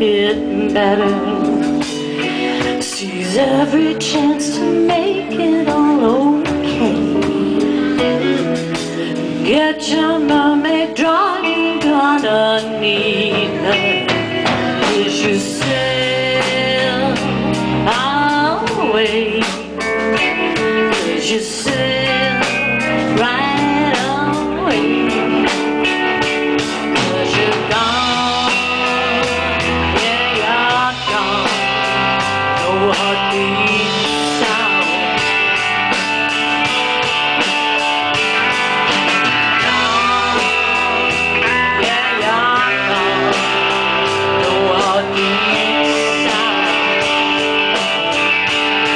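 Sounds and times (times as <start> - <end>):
blues-rock band playing: 0.0 - 48.9
lead guitar bending notes: 0.0 - 48.9.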